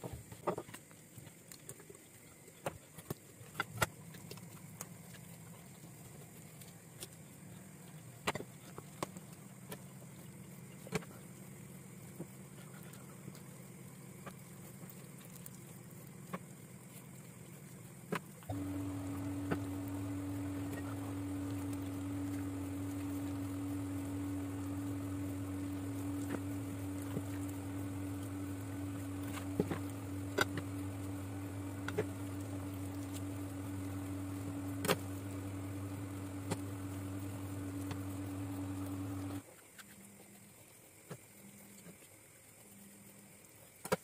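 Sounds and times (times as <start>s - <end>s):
steady low hum: 3.4s - 39.4s.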